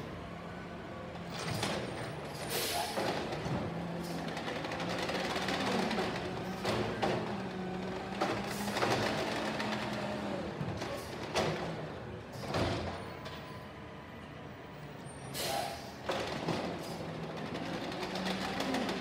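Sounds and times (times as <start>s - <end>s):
truck engine hum: 0.0s - 15.2s.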